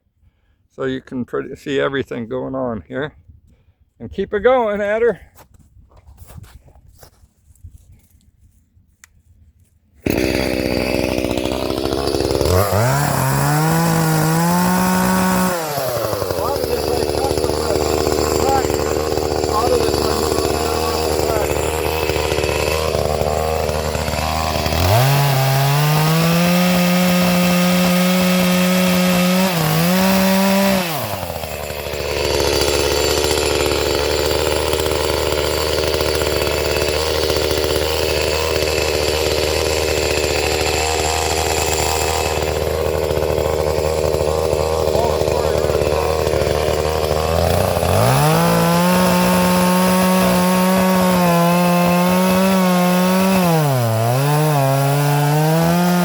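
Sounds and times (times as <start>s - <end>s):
chainsaw engine revving: 10.0s - 56.0s.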